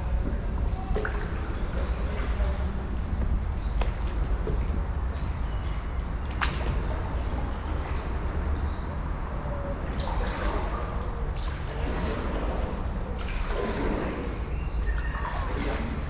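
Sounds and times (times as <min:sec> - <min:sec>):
wind rumble on microphone: 0:00.0 - 0:16.0
water splashes and drips: 0:00.1 - 0:16.0
paddle pulling through water: 0:00.2 - 0:08.6, 0:09.6 - 0:16.0.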